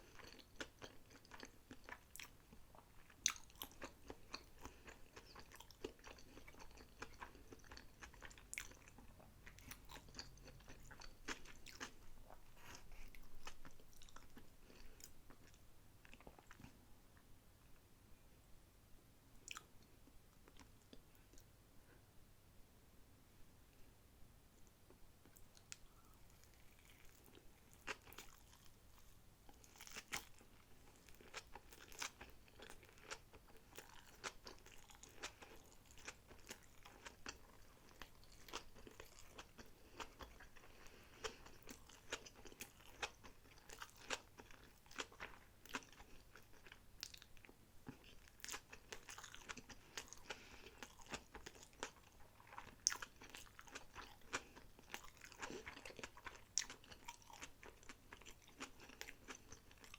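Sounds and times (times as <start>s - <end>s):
chewing sushi: 0.0s - 16.8s, 19.4s - 19.8s, 25.2s - 59.9s.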